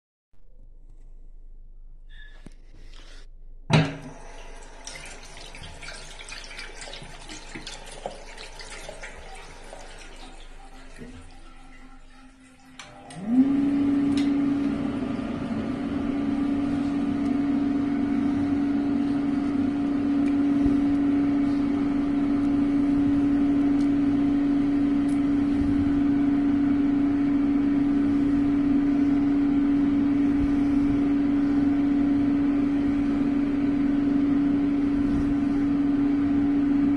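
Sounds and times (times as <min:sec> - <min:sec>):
electric hand dryer running: 0:03.7 - 0:36.9.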